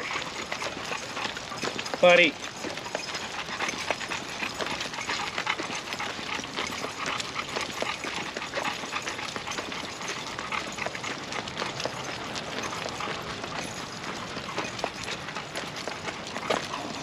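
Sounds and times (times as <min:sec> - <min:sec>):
footsteps and dog paws: 0:00.0 - 0:17.0.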